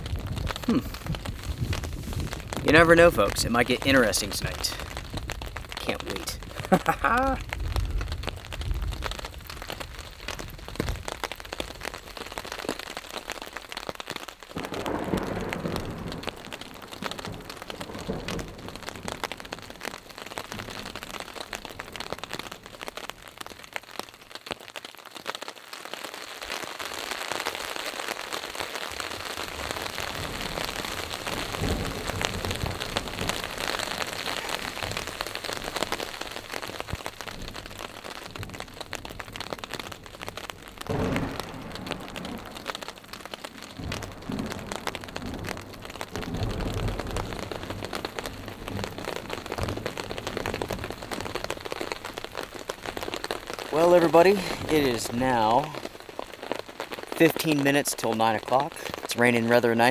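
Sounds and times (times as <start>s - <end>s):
rain falling on a tarp: 0.0s - 59.9s.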